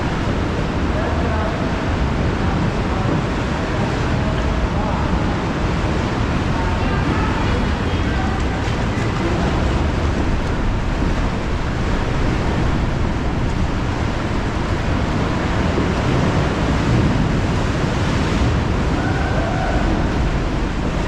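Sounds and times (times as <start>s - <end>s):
sea waves and surf: 0.0s - 21.0s
wind on microphone: 0.0s - 21.0s.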